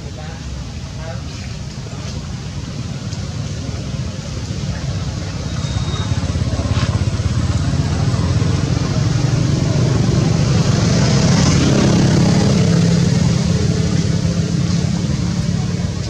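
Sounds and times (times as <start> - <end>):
vehicle engine running: 1.7 - 16.0.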